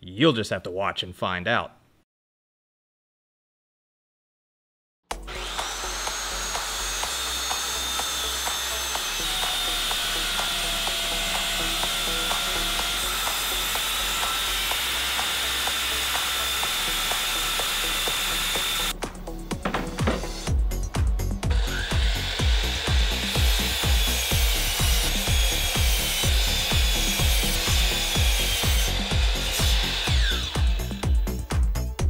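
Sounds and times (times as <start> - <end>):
circular saw cutting wood: 5.1 - 19.0, 19.6 - 31.6.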